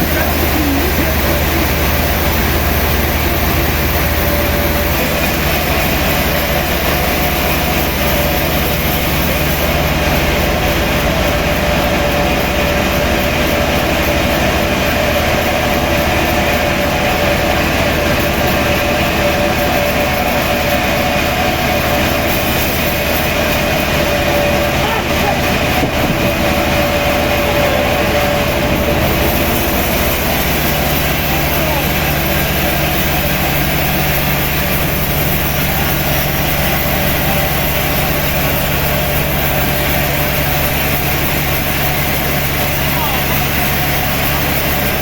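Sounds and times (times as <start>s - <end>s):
sawmill machinery whining: 0.0s - 45.0s.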